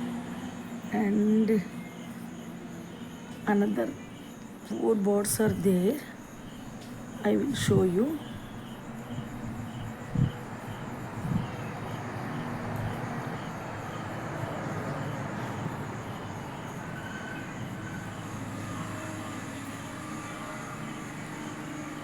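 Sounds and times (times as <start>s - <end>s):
crickets chirping: 0.0s - 22.0s
distant vehicles rumbling: 0.0s - 22.0s.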